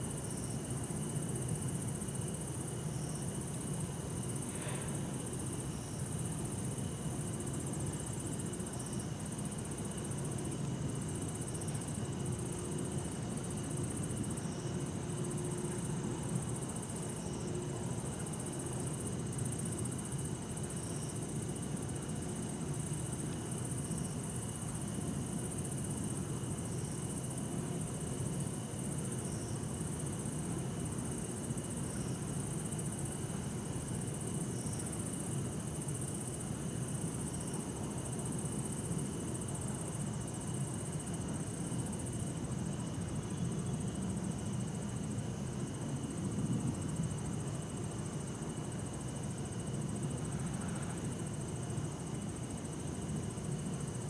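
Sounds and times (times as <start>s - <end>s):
crickets and insects singing: 0.0s - 54.0s.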